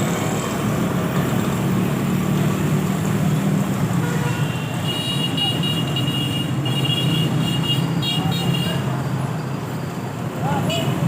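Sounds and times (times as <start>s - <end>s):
road traffic engines: 0.0s - 11.0s.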